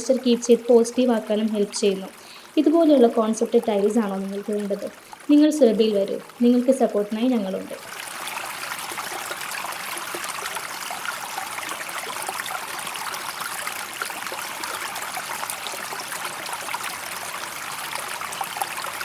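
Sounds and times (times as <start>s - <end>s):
water fountain trickling: 0.0s - 19.0s.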